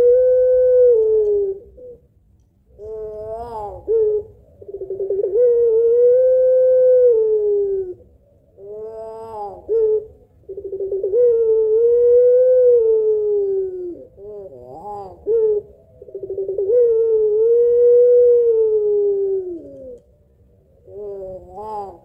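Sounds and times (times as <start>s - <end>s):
dove cooing: 0.0s - 2.1s, 2.7s - 22.0s.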